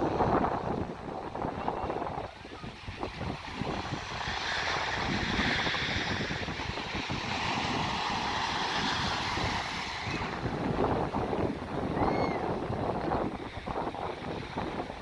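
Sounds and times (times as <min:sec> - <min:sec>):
ocean surf washing in: 0:00.0 - 0:15.0
wind rumbling on microphone: 0:00.0 - 0:15.0.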